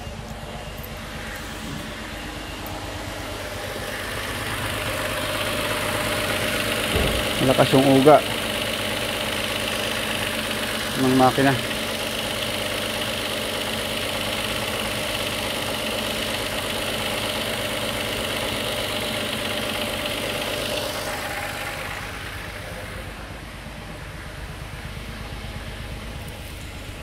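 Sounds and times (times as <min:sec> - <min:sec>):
car engine idling rough: 0:00.0 - 0:27.0.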